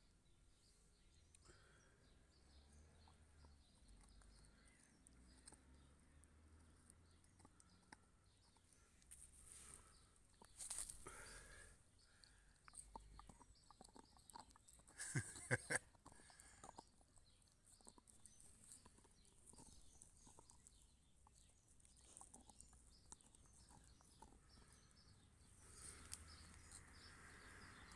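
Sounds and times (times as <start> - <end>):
dog teeth crunching and clicking: 2.9 - 11.1, 11.9 - 27.9.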